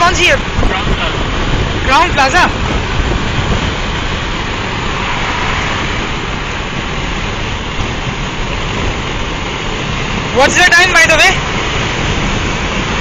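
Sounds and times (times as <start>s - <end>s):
car wind and road noise: 0.0s - 13.0s.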